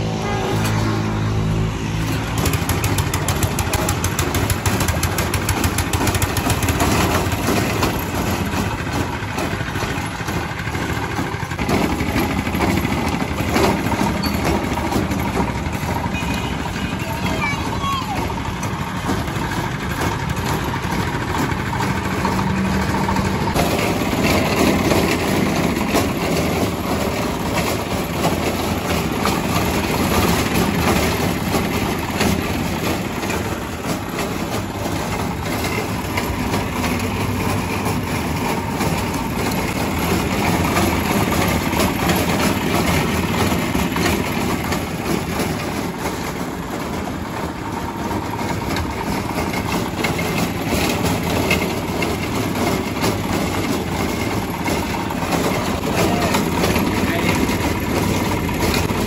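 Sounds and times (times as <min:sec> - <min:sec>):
motorised grinder grinding paste: 0:01.9 - 0:59.0.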